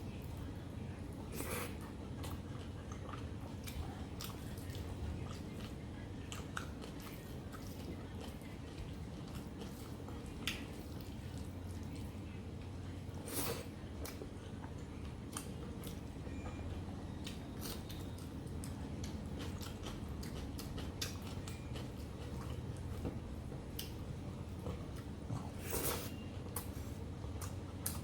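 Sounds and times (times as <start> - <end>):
chewing and wet mouth sounds: 0.0 - 28.0.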